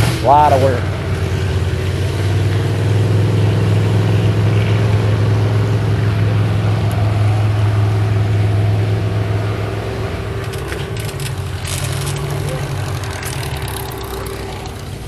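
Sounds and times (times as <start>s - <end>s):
engine running with low hum: 0.0s - 15.0s.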